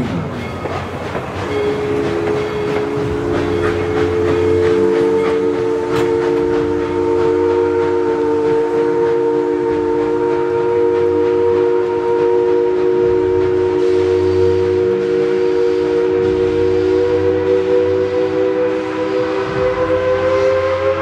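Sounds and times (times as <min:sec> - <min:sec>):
steam locomotive whistle: 0:00.0 - 0:21.0
train rumbling: 0:00.0 - 0:21.0.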